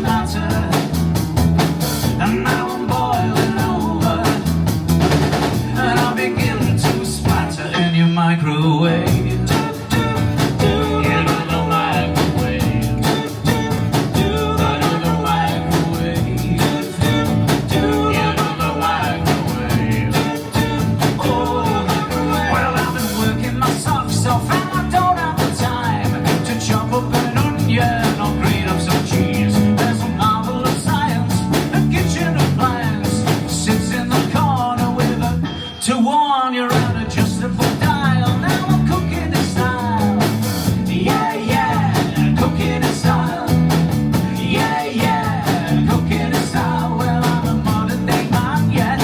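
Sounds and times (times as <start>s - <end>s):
fast drum beat: 0.0s - 7.7s, 9.1s - 35.5s, 36.7s - 49.0s
bass guitar: 0.0s - 36.0s, 36.7s - 49.0s.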